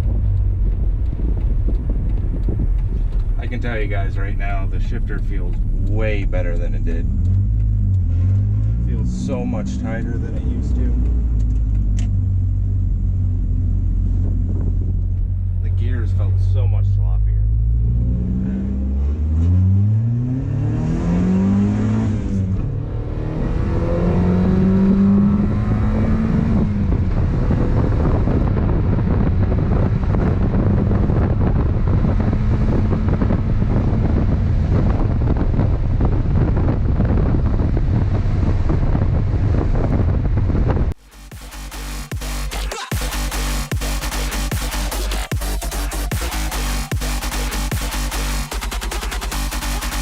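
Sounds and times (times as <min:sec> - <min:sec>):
car engine accelerating: 0:00.0 - 0:50.0
road noise: 0:00.0 - 0:50.0.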